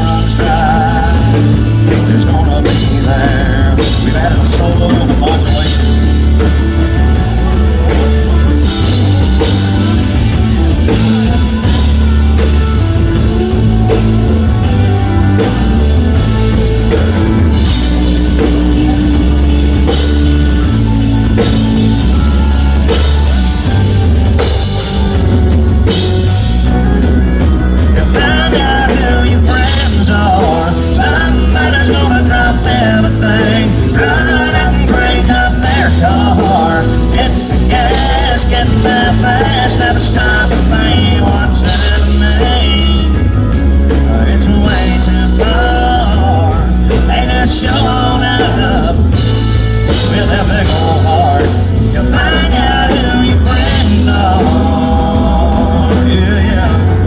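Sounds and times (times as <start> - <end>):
bass: 0.0 - 57.0
drum kit: 0.0 - 57.0
lead melody line: 0.0 - 57.0
live country band playing: 0.0 - 57.0.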